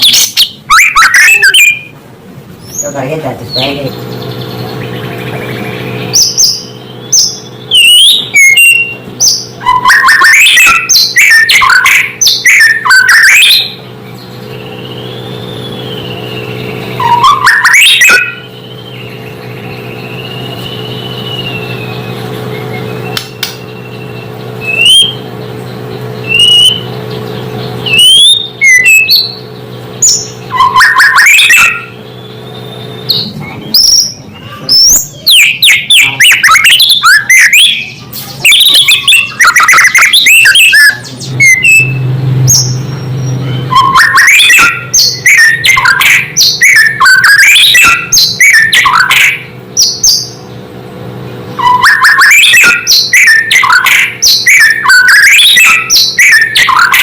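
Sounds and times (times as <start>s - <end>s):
bird singing chirps and trills: 0.0s - 2.0s, 2.6s - 57.0s
steady low hum: 0.0s - 57.0s.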